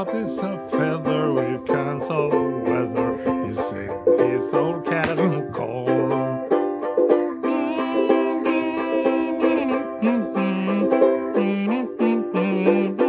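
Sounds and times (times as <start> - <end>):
harmonica bending notes: 0.0 - 13.0
strummed ukulele chords: 0.0 - 13.0.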